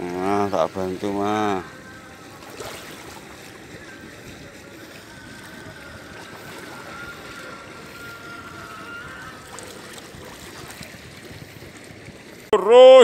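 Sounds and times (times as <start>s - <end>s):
water washing against seawall: 0.0s - 12.7s.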